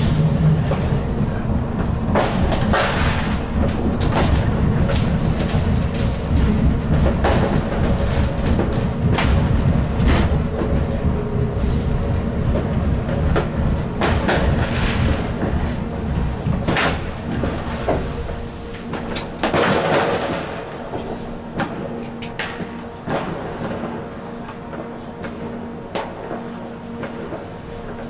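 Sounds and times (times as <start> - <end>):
light-rail car rumbling: 0.0 - 28.0
firecrackers banging: 1.8 - 27.8.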